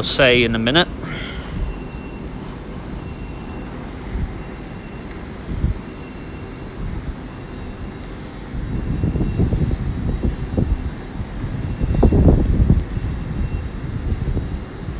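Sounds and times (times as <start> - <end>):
train pulling out rumbling: 0.0 - 14.9.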